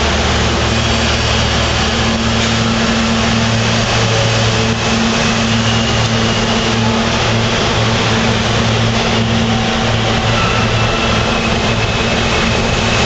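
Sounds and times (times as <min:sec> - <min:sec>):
subway train electric hum: 0:00.0 - 0:13.0.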